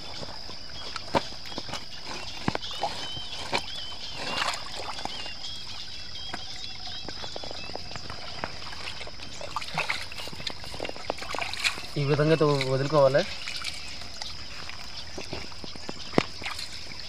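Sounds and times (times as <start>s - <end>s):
splashes and knocks of fish trap: 0.0s - 17.0s
warbling chirps: 0.0s - 17.0s
water trickling: 0.0s - 17.0s.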